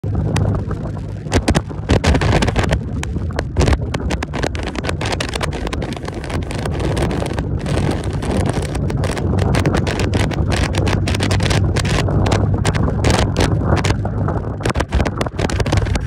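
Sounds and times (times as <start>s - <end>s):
motorcycle engine cruising: 0.0s - 16.0s
wind buffeting microphone: 0.0s - 16.0s.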